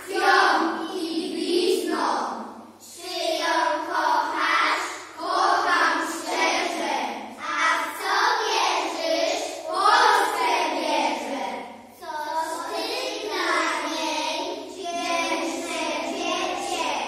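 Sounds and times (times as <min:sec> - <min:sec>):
children singing together: 0:00.0 - 0:17.0.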